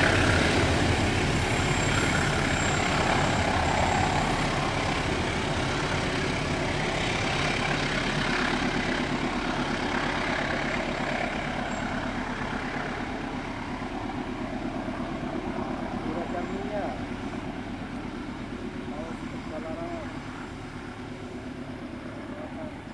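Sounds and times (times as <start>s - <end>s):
train engine hum: 0.0s - 22.9s
wheels rumbling on rails: 0.0s - 22.9s.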